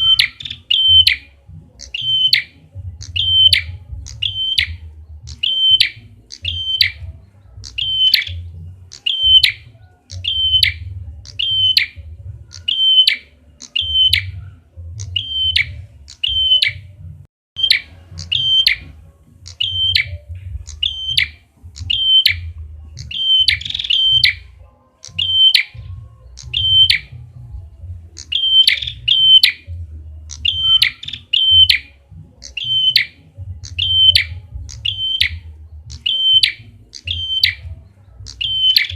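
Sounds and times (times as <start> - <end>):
bird chirping high: 0.0 - 38.9.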